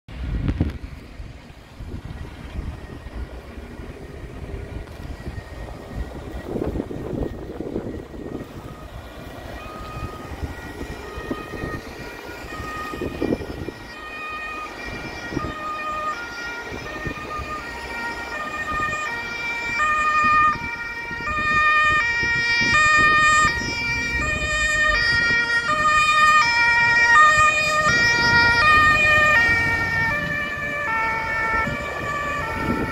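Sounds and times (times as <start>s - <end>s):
two-tone sirens: 0.1s - 32.9s
vehicles running noise: 0.1s - 32.9s.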